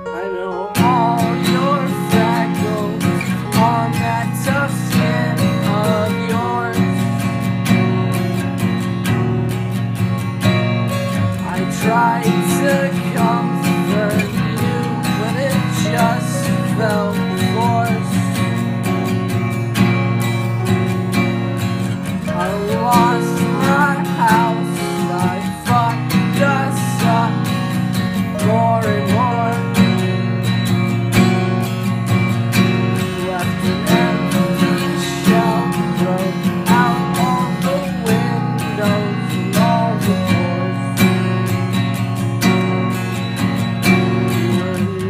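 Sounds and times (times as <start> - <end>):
electronic music with plucked melody: 0.0 - 45.0.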